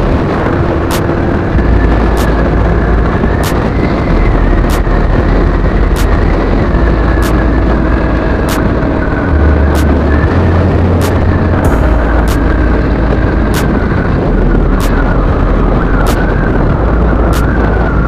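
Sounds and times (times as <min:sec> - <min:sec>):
faint steady whine: 0:00.0 - 0:18.0
road and engine noise: 0:00.0 - 0:18.0
wind buffeting microphone: 0:00.0 - 0:18.0.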